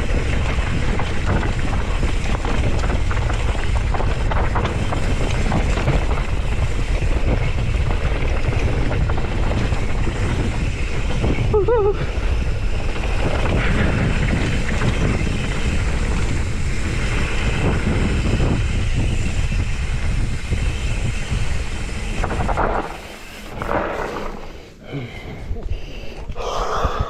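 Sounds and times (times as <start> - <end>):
mountain bike rumbling and rattling: 0.0 - 27.0
wind buffeting microphone: 0.0 - 27.0.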